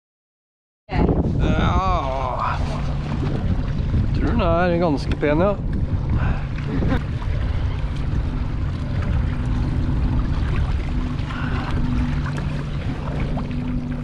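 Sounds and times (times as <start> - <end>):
wind buffeting microphone: 0.9 - 14.0
steady low hum: 1.1 - 14.0.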